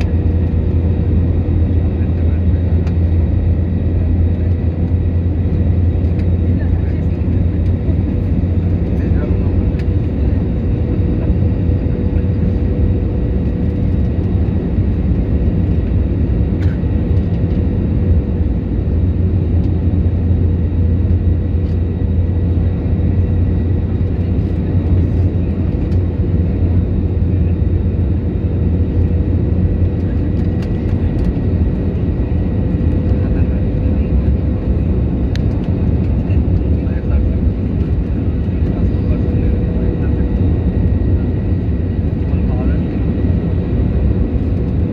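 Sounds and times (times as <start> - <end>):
jet engine and airflow roar: 0.0 - 44.9.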